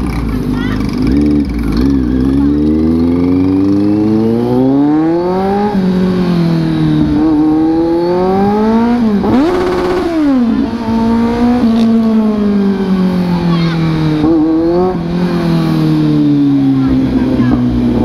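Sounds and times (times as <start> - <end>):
motorcycle accelerating hard: 0.0 - 18.0.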